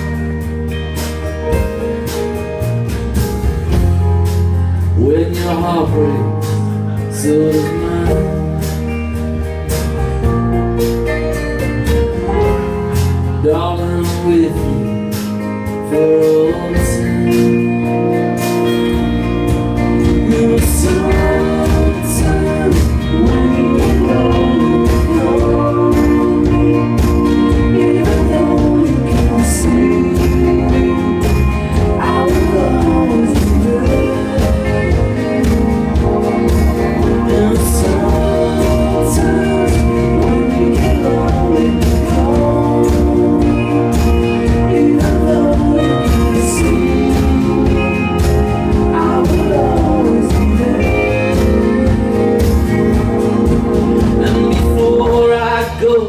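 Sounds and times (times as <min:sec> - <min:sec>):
band playing pop-country song: 0:00.0 - 0:56.0
man singing: 0:04.8 - 0:09.0, 0:13.0 - 0:19.0, 0:19.8 - 0:53.0, 0:54.0 - 0:56.0.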